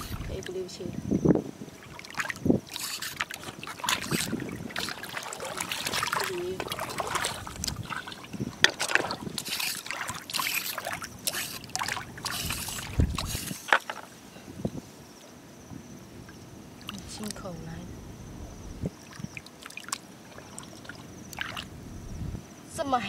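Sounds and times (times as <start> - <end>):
water splashing and sloshing: 0.0 - 14.3, 16.2 - 17.6, 18.8 - 21.8.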